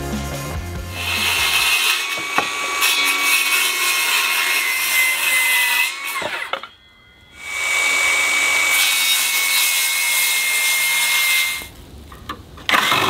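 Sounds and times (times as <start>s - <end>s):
oscillating tool cutting wood: 1.0s - 11.7s.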